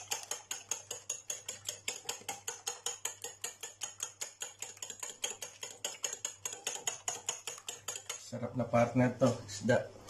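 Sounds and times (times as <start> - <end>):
fork beating egg on a plate: 0.0 - 8.5.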